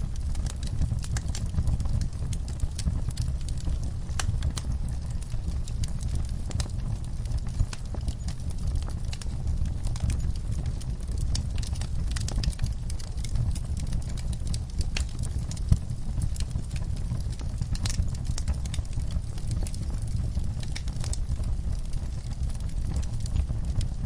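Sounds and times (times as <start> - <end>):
fire burning low rumble: 0.0 - 24.0
fire crackles and pops: 0.0 - 24.0.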